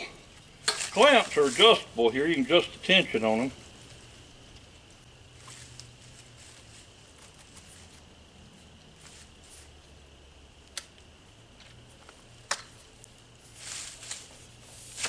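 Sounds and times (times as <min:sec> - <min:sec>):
rustling handling noise: 0:00.0 - 0:09.9, 0:11.6 - 0:15.0.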